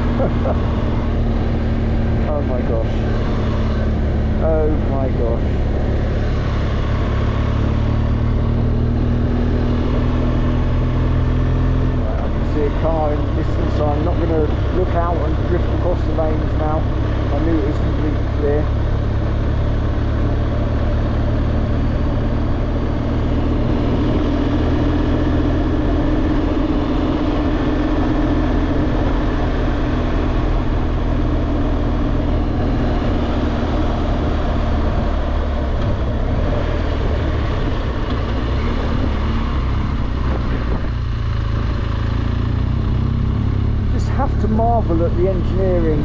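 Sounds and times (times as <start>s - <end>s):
motorcycle engine running: 0.0s - 46.0s
road and wind noise: 0.0s - 46.0s.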